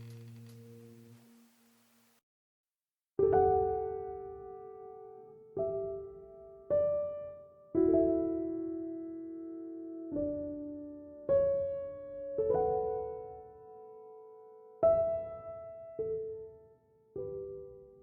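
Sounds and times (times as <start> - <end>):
gentle piano chords: 0.0 - 1.8, 3.2 - 18.0.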